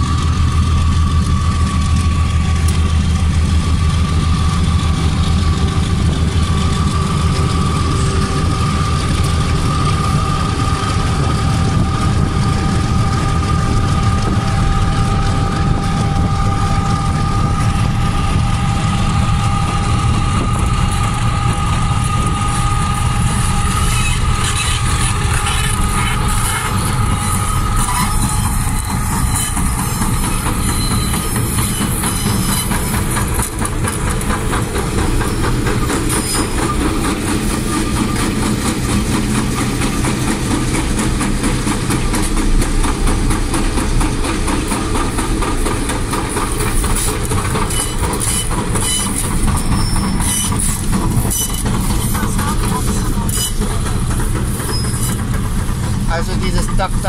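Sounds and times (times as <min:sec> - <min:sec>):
locomotive engines rumbling: 0:00.0 - 0:57.0
wheels clacking on rails: 0:00.0 - 0:57.0.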